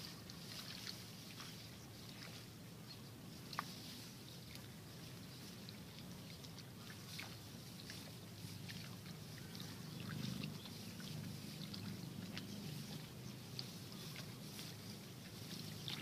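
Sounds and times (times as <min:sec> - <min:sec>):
rice plants rustling: 0:00.0 - 0:16.0.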